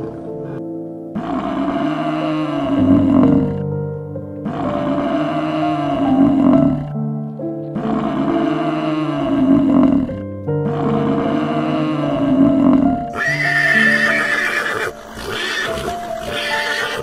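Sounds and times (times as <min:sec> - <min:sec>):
background music: 0:00.0 - 0:17.0
large animal roaring: 0:01.2 - 0:03.8, 0:04.4 - 0:07.0, 0:07.8 - 0:17.0.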